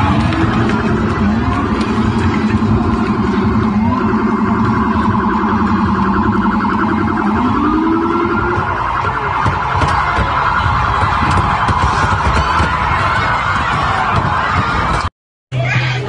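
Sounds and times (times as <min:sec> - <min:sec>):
rising siren tone: 0:00.0 - 0:13.6
police siren yelping: 0:00.0 - 0:14.2.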